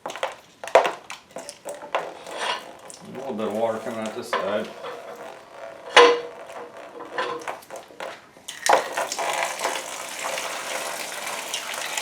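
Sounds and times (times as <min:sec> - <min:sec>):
water trickling: 0:01.2 - 0:12.0.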